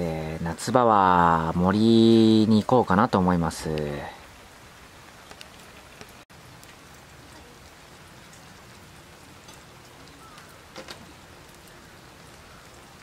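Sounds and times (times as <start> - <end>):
stew simmering and sizzling: 0.0 - 13.0.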